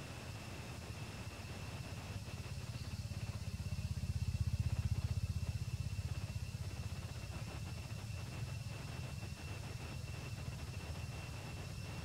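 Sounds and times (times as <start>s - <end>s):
engine running with low pulse: 0.0s - 12.0s.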